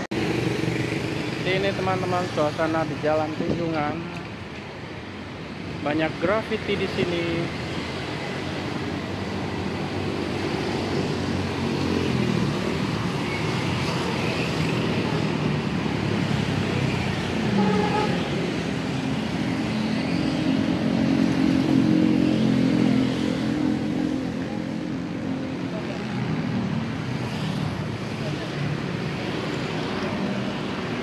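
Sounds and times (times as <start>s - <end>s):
cars passing: 0.0s - 31.0s
motorcycles passing: 0.0s - 31.0s.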